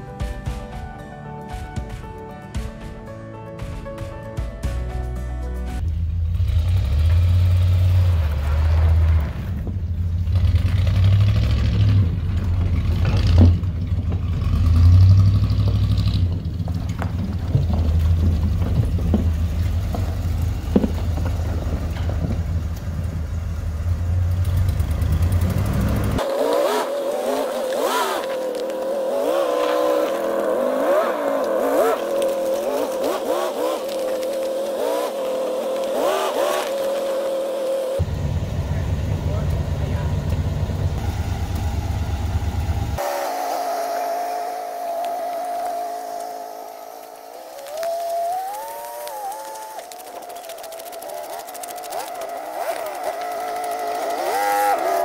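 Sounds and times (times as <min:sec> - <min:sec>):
motorhome engine revving: 0:05.9 - 0:55.0.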